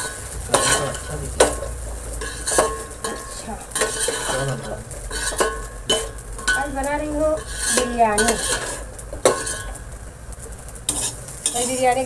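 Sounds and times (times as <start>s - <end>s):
metal spoon clanking against pot: 0.0s - 9.8s, 10.9s - 12.0s
food sizzling: 0.0s - 12.0s.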